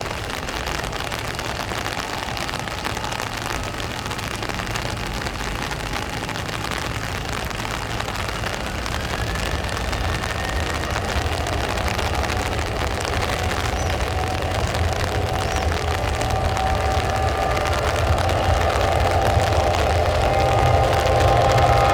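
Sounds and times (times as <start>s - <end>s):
faint engine whine: 0.0s - 21.9s
jet engines roaring: 0.0s - 21.9s
rain rushing: 0.0s - 21.9s.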